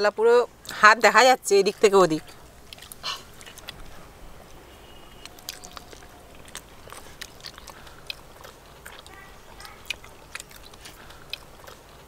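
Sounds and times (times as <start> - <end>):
people chewing and smacking: 0.6 - 12.0.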